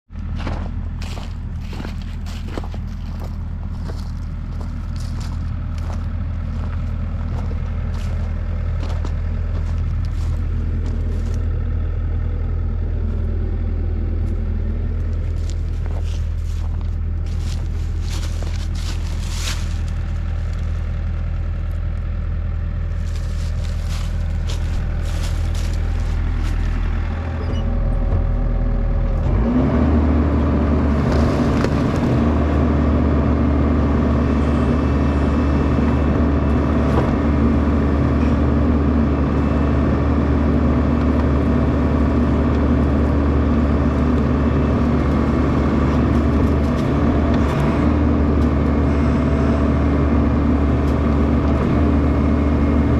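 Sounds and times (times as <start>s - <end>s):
excavator diesel engine running: 0.1s - 52.9s.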